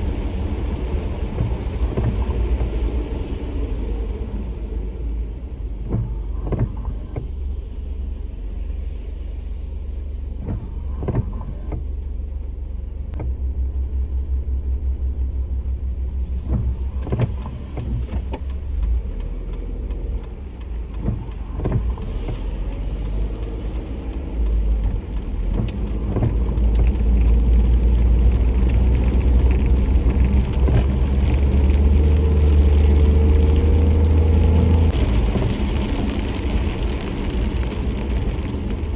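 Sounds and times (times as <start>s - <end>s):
low rumble of road traffic: 0.0s - 38.9s.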